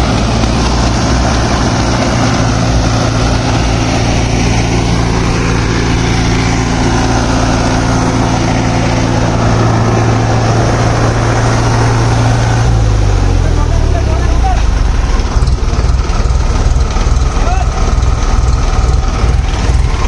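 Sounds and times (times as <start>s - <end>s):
second tractor engine: 0.0s - 20.0s
tractor diesel engine straining: 0.0s - 20.0s.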